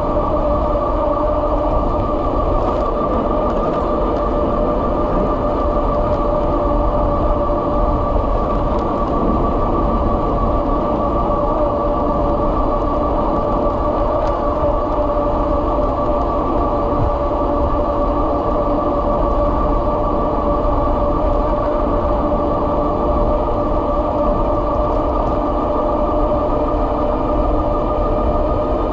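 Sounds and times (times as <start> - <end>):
electric bike motor whine: 0.0 - 28.9
road rumble: 0.0 - 28.9
wind rushing on microphone: 0.0 - 28.9.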